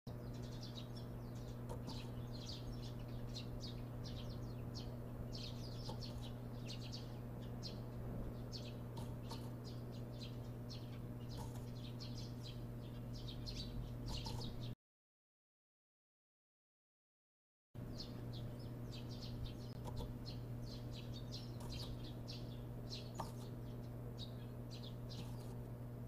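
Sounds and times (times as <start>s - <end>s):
birds chirping: 0.1s - 14.8s, 17.8s - 26.0s
steady low hum: 0.1s - 14.8s, 17.8s - 26.0s.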